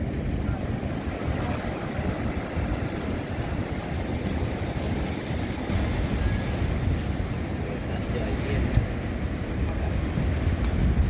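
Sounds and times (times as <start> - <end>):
ocean surf rushing: 0.0 - 11.0
wind buffeting microphone: 0.0 - 11.0.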